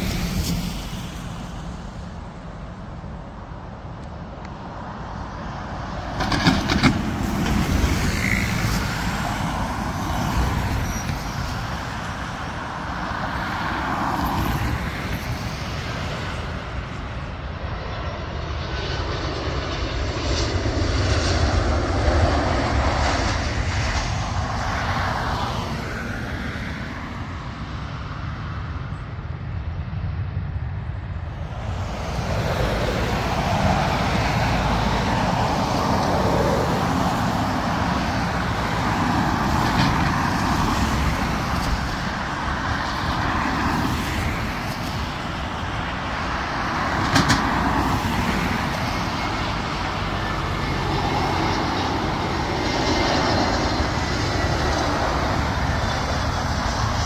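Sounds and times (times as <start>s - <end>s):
jet airliner engines running: 0.0s - 57.0s.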